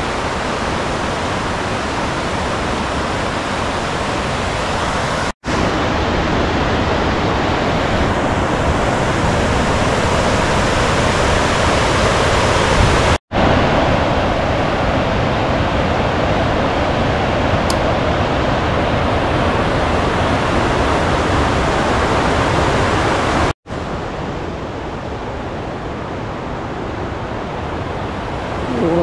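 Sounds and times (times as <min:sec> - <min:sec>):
fast-flowing river water: 0:00.0 - 0:29.0.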